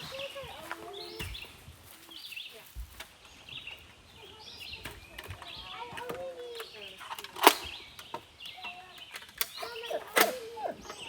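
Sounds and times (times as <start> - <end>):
birds chirping: 0.0 - 11.0
faint indistinct voices: 0.0 - 11.0.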